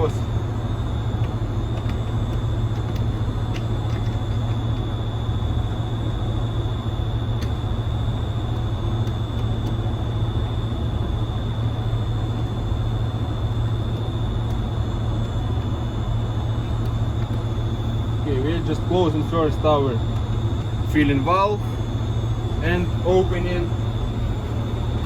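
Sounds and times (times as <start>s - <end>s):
air compressor humming and whining: 0.0s - 25.0s.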